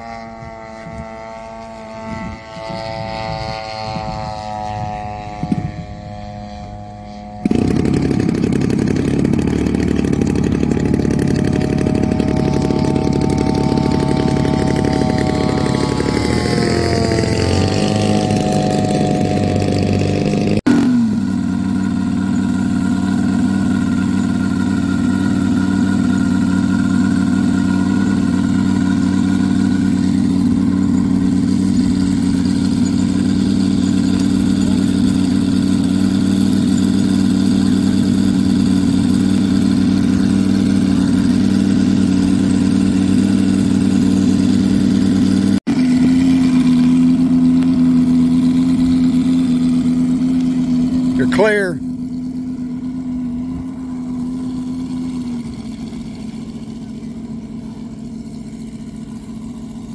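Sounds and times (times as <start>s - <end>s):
model plane engine idling: 0.0s - 59.9s.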